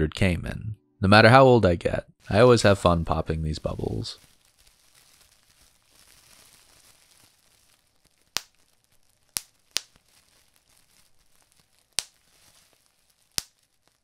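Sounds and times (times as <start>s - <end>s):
bubble wrap crinkling: 2.2s - 14.0s
bubble wrap popping: 2.2s - 14.0s.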